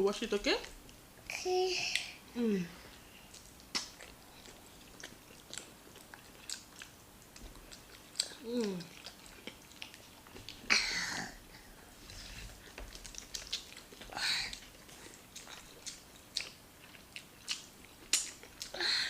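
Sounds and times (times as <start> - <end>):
people chewing food: 2.8 - 19.0.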